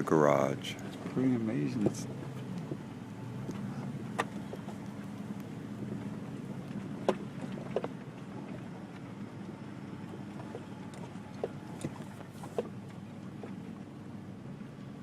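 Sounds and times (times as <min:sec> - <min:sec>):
vehicle engine low drone: 0:00.0 - 0:15.0.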